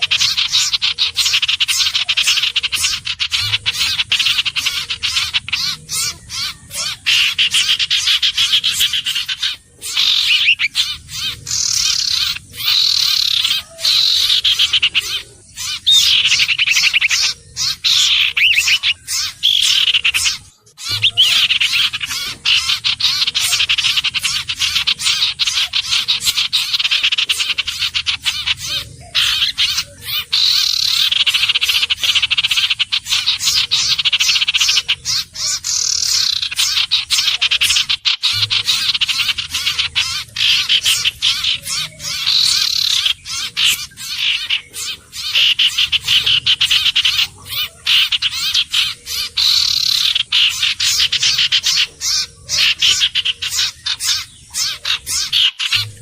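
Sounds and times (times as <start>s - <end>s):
bird whistles and chattering trills: 0.0s - 56.0s.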